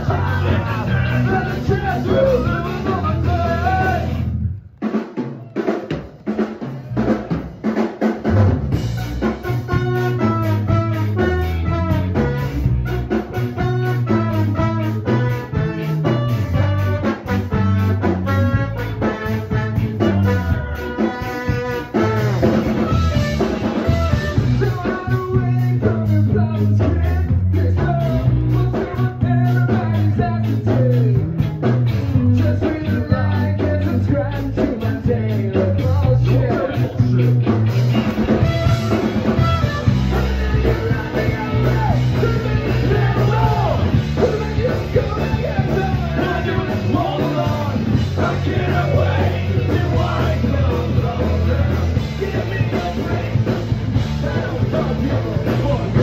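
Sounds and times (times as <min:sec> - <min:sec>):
driving drum beat: 0:00.0 - 0:56.0
ska-punk band playing live: 0:00.0 - 0:56.0.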